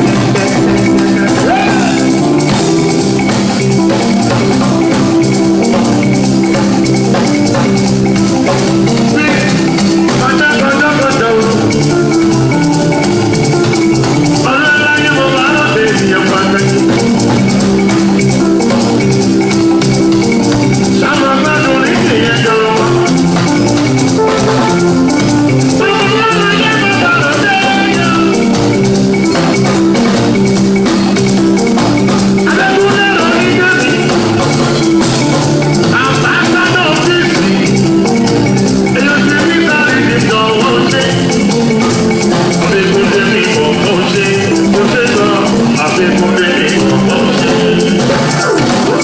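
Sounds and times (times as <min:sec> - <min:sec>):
melodic lead phrases: 0:00.0 - 0:49.0
steady bass line: 0:00.0 - 0:49.0.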